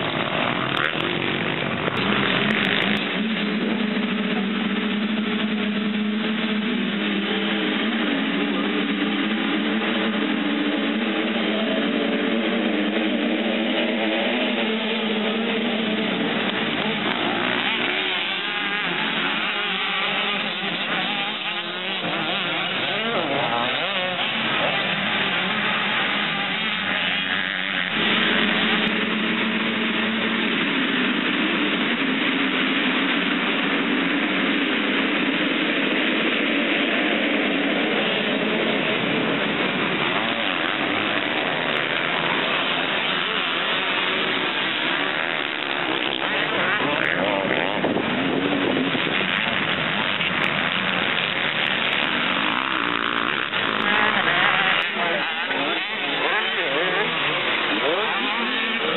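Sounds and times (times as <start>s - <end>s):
motocross engines revving: 0.0s - 58.9s
pack of motorbike engines: 0.0s - 58.9s.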